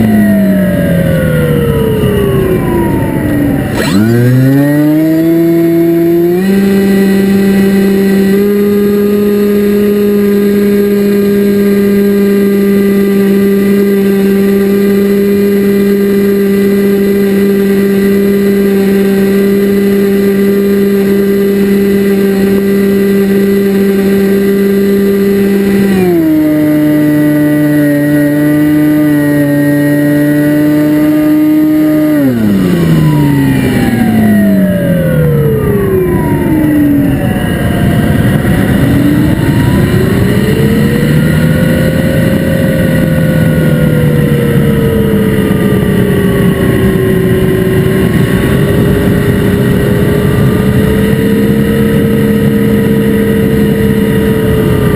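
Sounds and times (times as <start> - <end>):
electric motor and propeller whine: 0.0 - 54.9.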